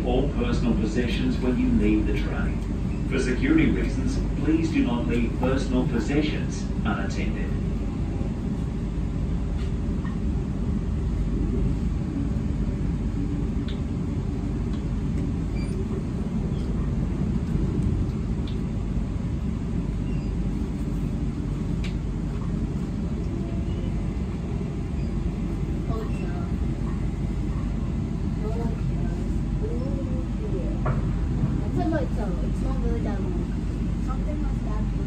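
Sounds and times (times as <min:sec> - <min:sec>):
train interior rumble: 0:00.0 - 0:35.0.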